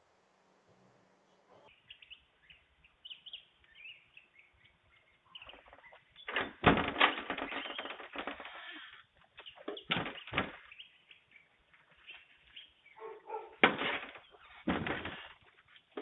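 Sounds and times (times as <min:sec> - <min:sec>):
small birds chirping: 0:01.3 - 0:16.0.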